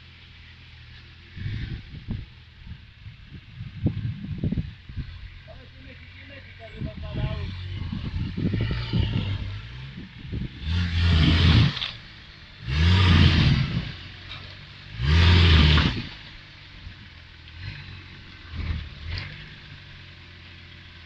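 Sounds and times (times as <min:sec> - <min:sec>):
engine revving: 0:00.9 - 0:02.3, 0:03.8 - 0:21.0.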